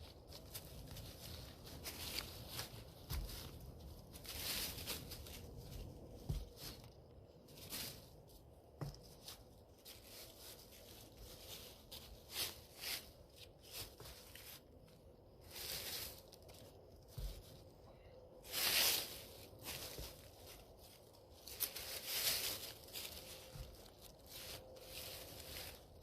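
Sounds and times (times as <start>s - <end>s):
dry leaves and sticks crunching: 0.0s - 26.0s.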